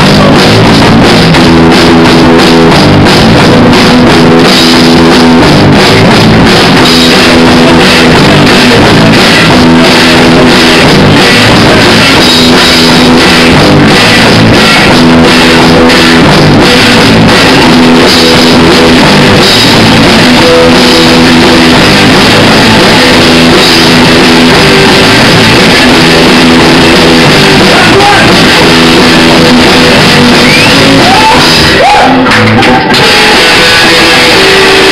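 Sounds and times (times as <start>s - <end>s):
loud rock band playing: 0.0s - 34.9s
person singing: 6.9s - 34.9s.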